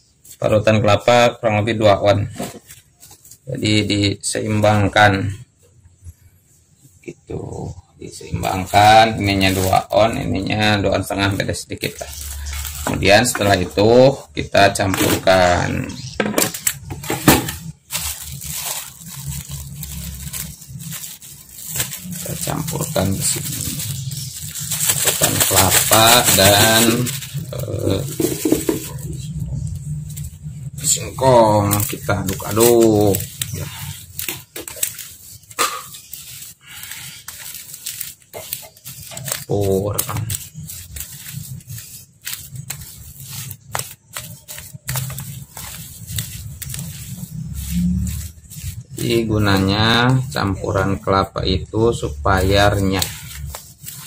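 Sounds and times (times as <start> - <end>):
hand mixing grated mass: 7.6 - 54.0
plastic bag crinkling: 8.4 - 14.2, 14.8 - 51.0, 52.0 - 54.0.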